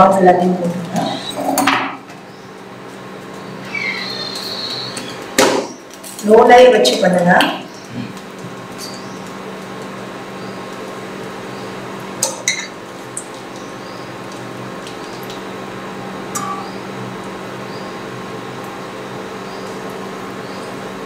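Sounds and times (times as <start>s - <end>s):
induction cooktop hum: 0.0s - 21.0s
food frying in oil: 2.3s - 21.0s.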